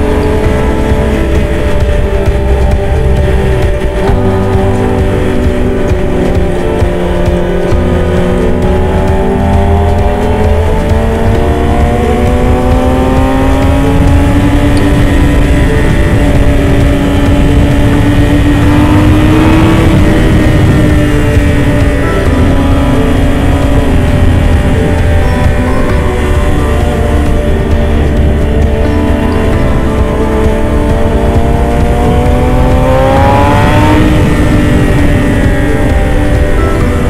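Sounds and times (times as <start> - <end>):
motorcycle engine accelerating: 0.0 - 37.0
wind over microphone: 0.0 - 37.0.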